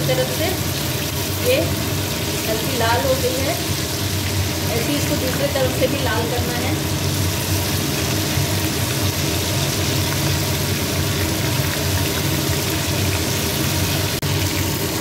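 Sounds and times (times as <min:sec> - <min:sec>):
chicken frying in oil: 0:00.0 - 0:15.0.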